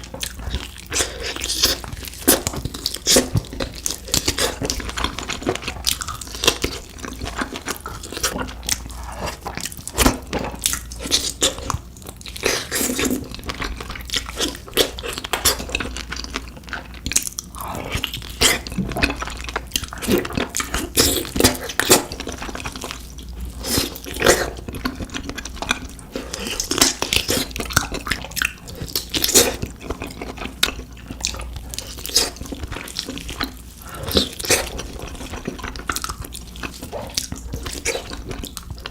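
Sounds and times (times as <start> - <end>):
crunchy wet chewing: 0.0 - 38.9.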